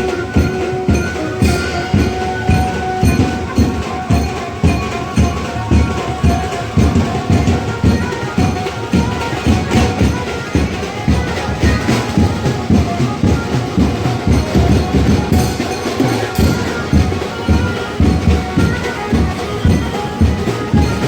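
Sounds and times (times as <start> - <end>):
drums beating fast rhythm: 0.0 - 21.0
held melody: 0.0 - 21.0.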